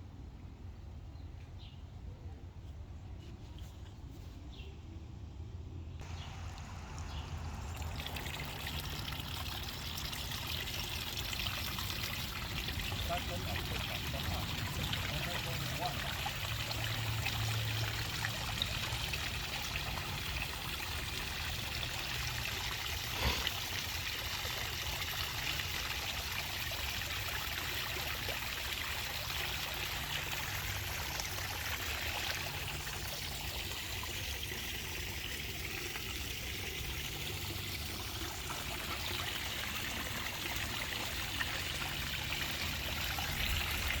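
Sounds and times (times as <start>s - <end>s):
water running and trickling: 6.0s - 44.0s.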